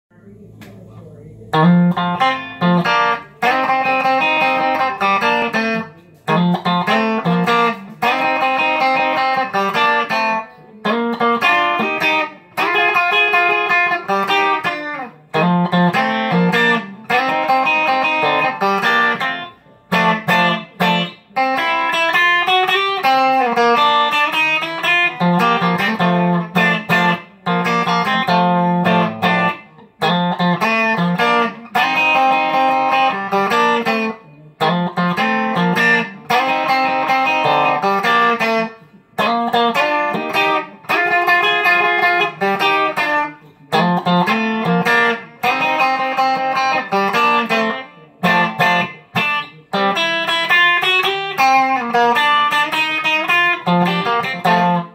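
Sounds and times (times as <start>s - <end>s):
electric guitar playing blues: 0.2s - 54.9s.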